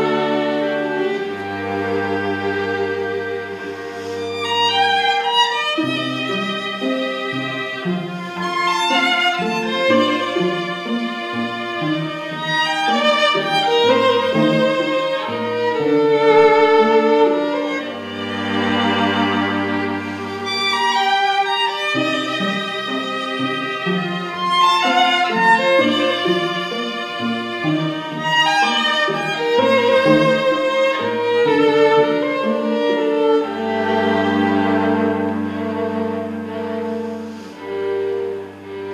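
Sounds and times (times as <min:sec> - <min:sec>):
lower bowed string line: 0:00.0 - 0:38.9
violin melody: 0:00.0 - 0:38.9.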